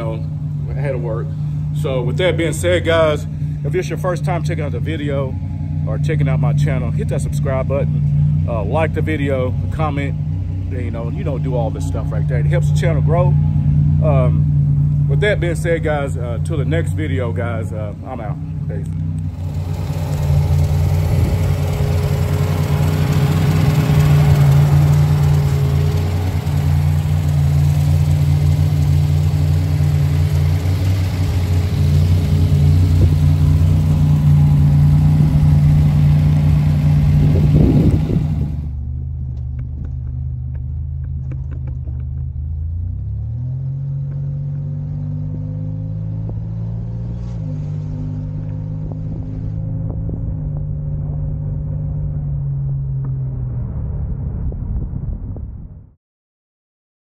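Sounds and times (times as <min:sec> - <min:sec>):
car engine running: 0:00.0 - 0:52.8.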